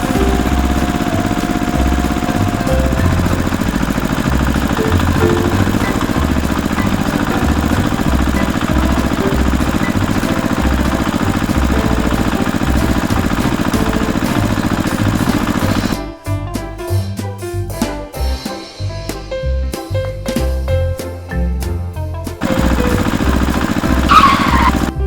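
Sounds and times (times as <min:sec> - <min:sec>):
tractor engine running: 0:00.0 - 0:20.6, 0:22.4 - 0:25.0
music with drums: 0:00.0 - 0:25.0.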